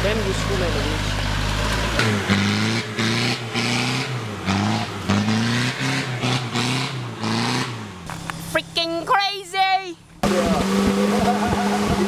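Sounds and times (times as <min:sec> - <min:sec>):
off-road engine revving hard: 0:00.0 - 0:08.5, 0:10.2 - 0:12.0.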